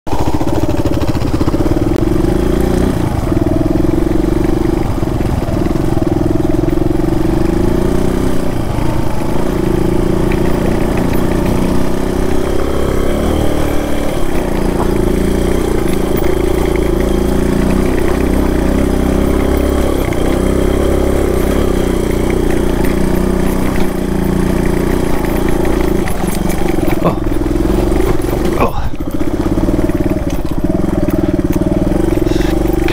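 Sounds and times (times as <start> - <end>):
motorcycle engine running: 0.1 - 32.9.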